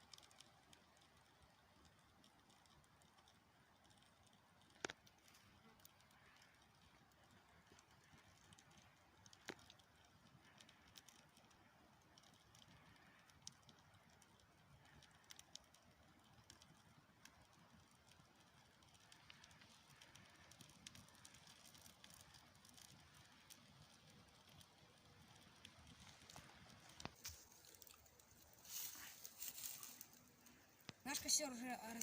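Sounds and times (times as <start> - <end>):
campfire crackling: 0.0 - 32.0
fire pops and snaps: 0.0 - 32.0.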